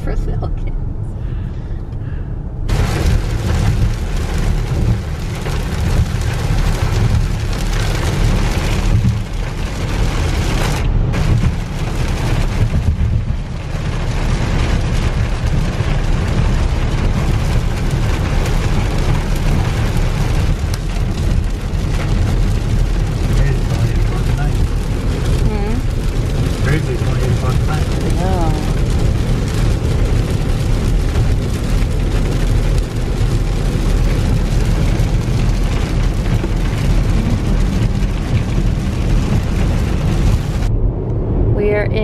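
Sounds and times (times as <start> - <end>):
road noise rumble: 0.0 - 42.0
rain on car windshield: 2.7 - 42.0.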